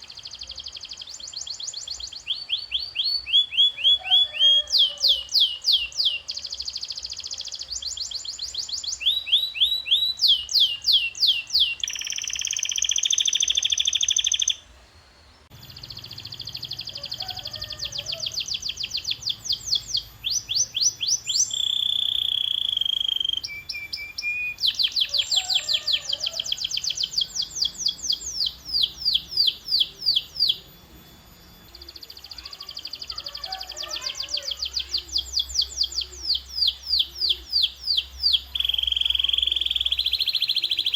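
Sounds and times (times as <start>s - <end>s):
canary singing: 0.0s - 14.7s, 15.4s - 40.9s.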